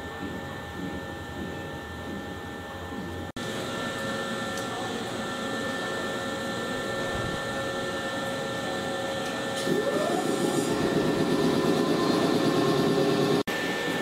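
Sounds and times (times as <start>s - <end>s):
train equipment humming and whirring: 0.0s - 14.0s.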